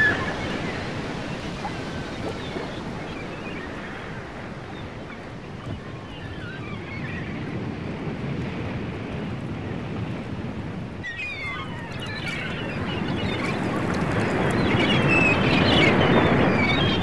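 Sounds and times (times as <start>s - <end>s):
rushing outdoor ambience: 0.0s - 17.0s.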